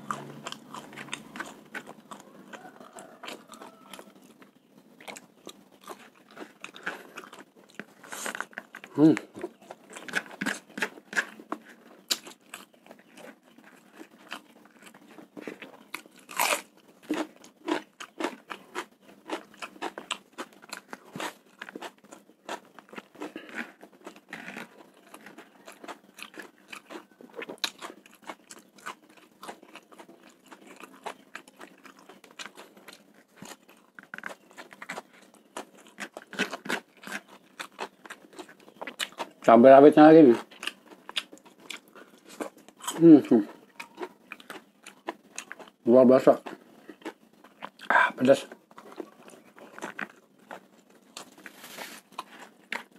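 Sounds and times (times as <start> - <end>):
person chewing: 0.0 - 52.9.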